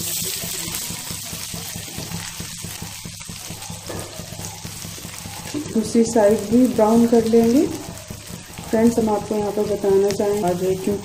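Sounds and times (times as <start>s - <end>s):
oil sizzling around patties: 0.0s - 11.0s.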